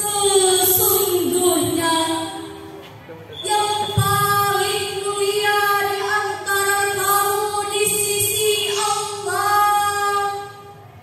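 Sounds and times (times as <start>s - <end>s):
girl singing: 0.0s - 2.6s, 3.5s - 10.8s.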